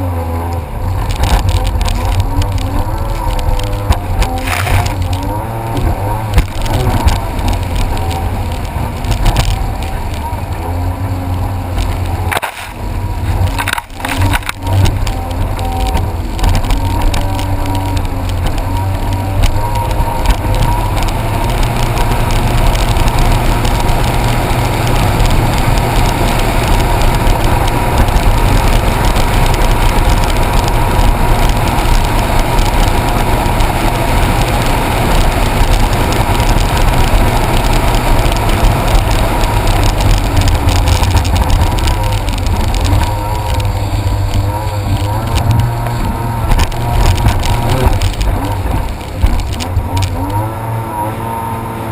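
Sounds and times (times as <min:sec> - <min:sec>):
jet ski engine running: 0:00.0 - 0:51.9.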